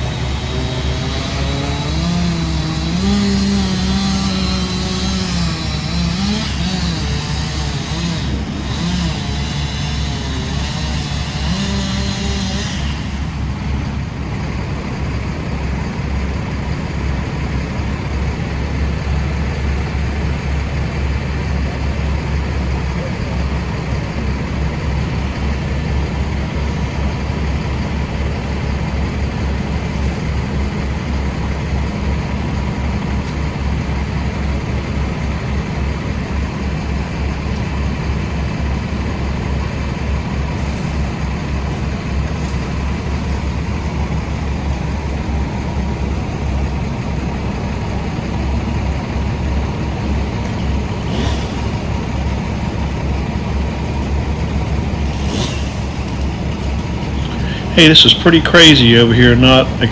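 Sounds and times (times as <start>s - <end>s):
heavy engine rumbling: 0.0s - 59.9s.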